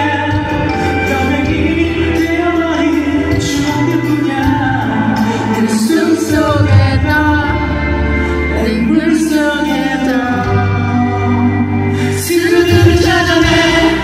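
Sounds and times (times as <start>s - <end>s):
live band playing: 0.0s - 14.0s
man singing into a microphone: 0.0s - 14.0s.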